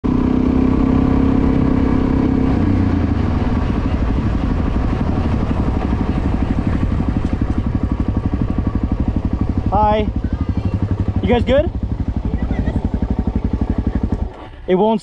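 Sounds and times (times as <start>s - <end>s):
motorcycle engine idling: 0.1s - 15.0s.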